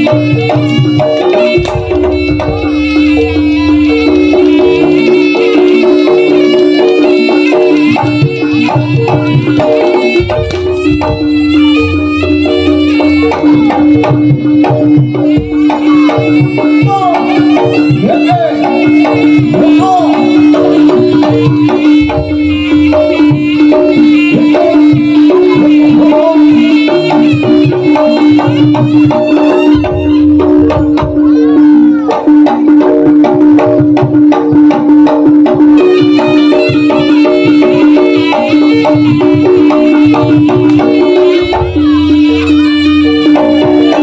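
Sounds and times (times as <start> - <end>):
wavering melody line: 0.0 - 33.1, 35.4 - 44.0
hand drums: 0.0 - 44.0.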